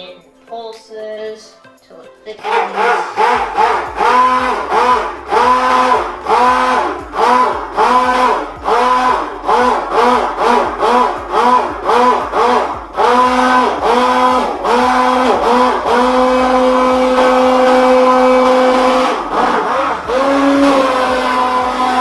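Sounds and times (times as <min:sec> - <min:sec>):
stick blender motor whine: 0:02.4 - 0:22.0.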